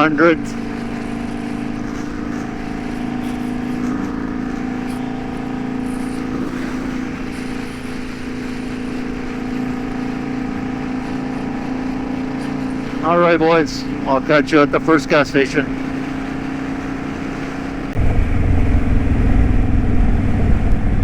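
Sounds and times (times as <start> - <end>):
motorcycle engine cruising: 0.0 - 21.0
wind and road noise: 0.0 - 21.0.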